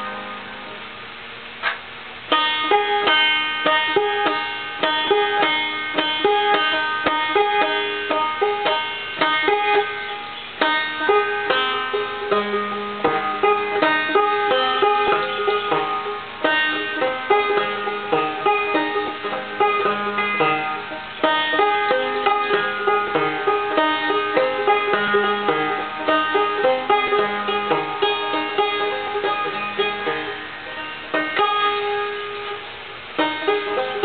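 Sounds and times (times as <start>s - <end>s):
banjo plucked notes: 0.0s - 34.0s.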